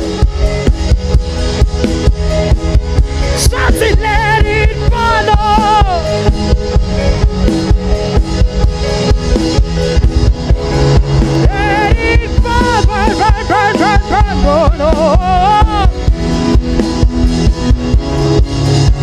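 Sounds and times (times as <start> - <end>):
drum kit beat: 0.0 - 19.0
wavering melody with vibrato: 0.0 - 19.0.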